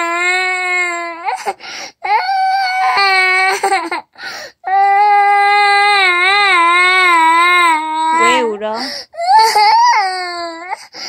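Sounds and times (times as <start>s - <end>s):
toddler crying in long wails: 0.0s - 11.0s.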